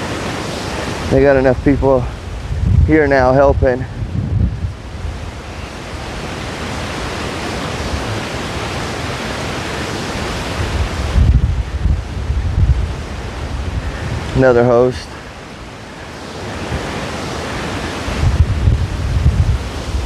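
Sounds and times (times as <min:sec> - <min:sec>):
strong wind blowing: 0:00.0 - 0:20.0
wind gusts buffeting microphone: 0:00.0 - 0:20.0.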